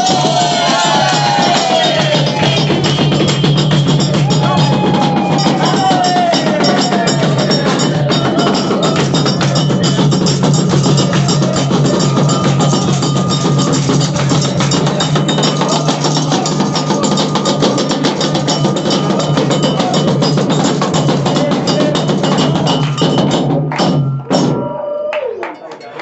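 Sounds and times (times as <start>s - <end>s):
fast drumming: 0.0s - 24.8s
wooden knocking rhythm: 0.0s - 24.8s.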